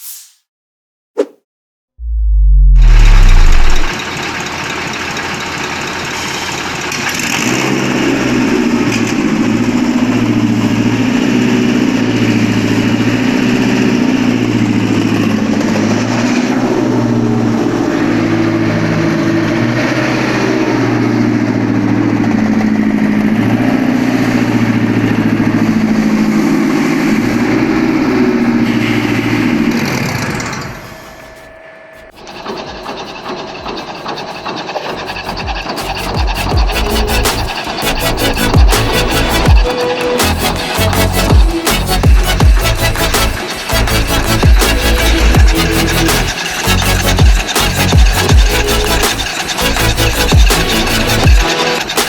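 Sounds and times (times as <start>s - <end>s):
petrol engine running: 2.0s - 52.0s.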